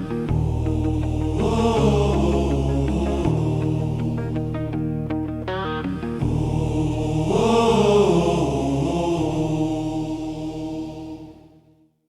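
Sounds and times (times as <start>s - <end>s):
held chord of ballad: 0.0s - 11.5s
wordless choir-like vocal: 0.0s - 12.0s.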